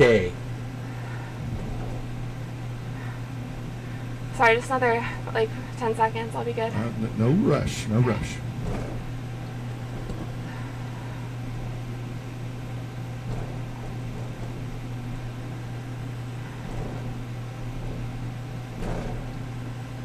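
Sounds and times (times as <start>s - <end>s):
centrifuge low hum: 0.0s - 20.0s.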